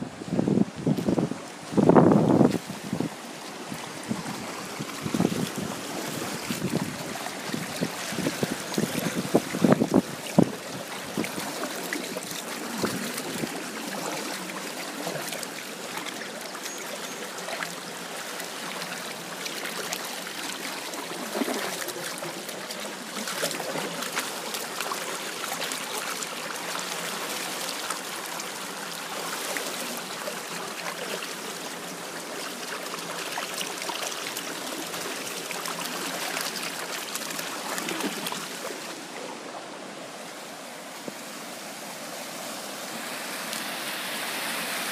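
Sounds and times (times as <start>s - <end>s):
floodwater rushing: 0.0s - 44.9s
water gurgles and splashes: 0.0s - 44.9s.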